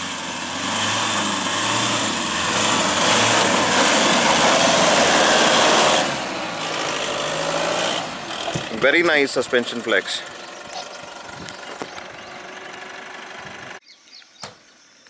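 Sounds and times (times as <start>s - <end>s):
diesel engine under load: 0.0s - 13.8s
tyres spinning in dirt: 0.4s - 13.8s.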